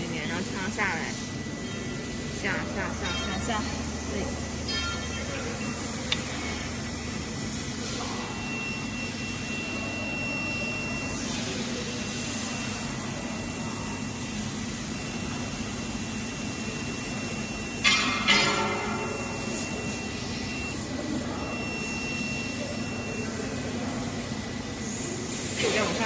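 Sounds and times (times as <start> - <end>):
steady machine hum: 0.0 - 26.0
thin high whine: 0.0 - 26.0.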